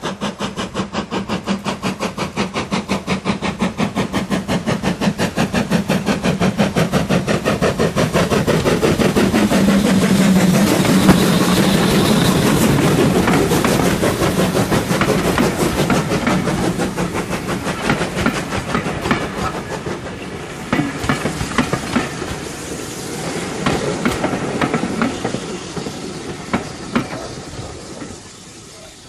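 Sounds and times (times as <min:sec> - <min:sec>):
train wheels clattering over rail joints: 0:00.0 - 0:29.0.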